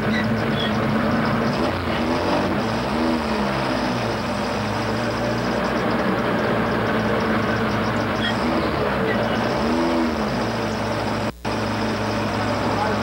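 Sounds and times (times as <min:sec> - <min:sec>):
road and wind noise: 0:00.0 - 0:13.0
truck engine running hard: 0:00.0 - 0:13.0.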